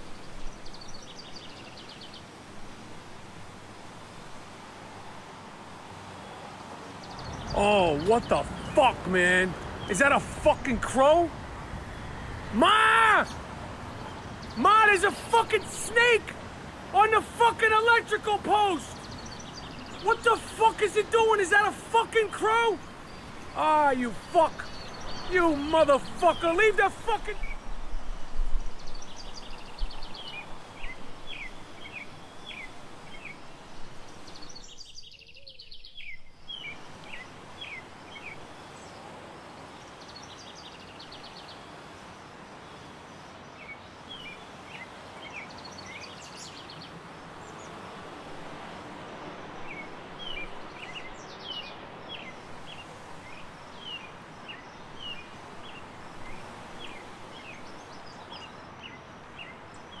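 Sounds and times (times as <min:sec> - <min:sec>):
outdoor background noise: 0:00.0 - 1:00.0
small birds chirping: 0:00.0 - 1:00.0.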